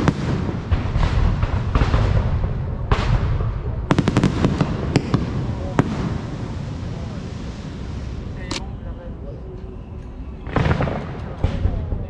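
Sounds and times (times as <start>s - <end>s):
fireworks booming: 0.0s - 8.6s, 10.4s - 12.0s
fireworks sharp cracks: 0.0s - 8.6s, 10.5s - 12.0s.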